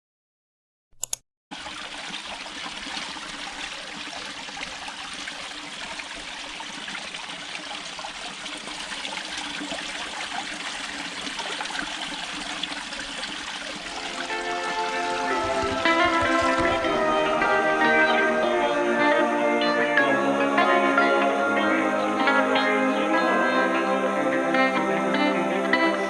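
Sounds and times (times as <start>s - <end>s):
stream water running: 1.5s - 26.0s.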